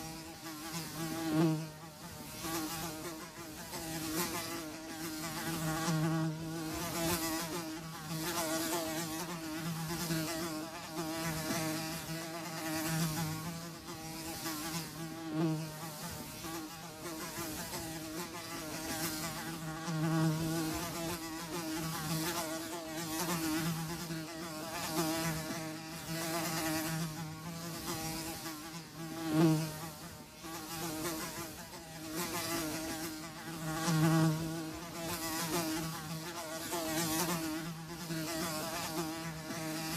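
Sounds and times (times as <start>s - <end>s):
flies buzzing: 0.0s - 39.9s.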